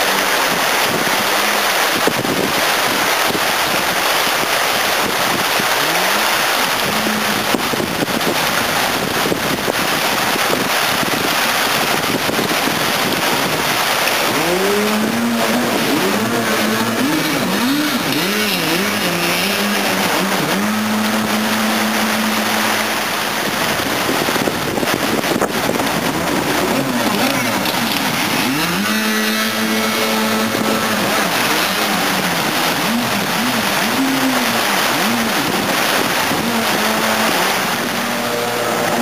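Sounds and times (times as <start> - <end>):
jet boat engine revving: 0.0 - 39.0
river water rushing: 0.0 - 39.0.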